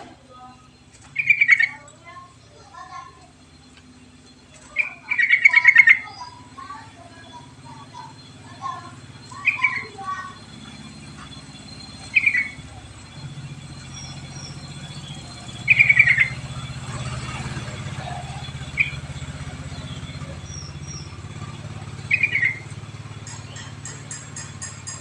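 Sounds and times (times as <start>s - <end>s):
bird chirping phrases: 0.0s - 25.0s
steady low hum: 0.0s - 25.0s.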